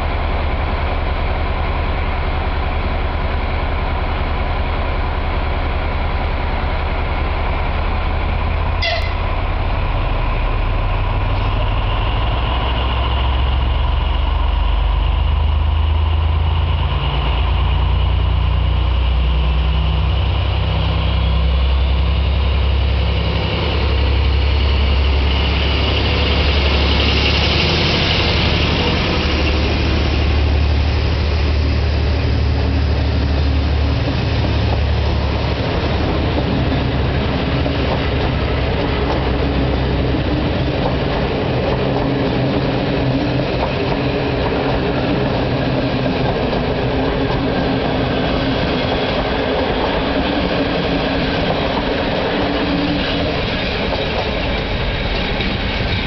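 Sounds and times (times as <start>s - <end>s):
diesel locomotive engine: 0.0s - 56.0s.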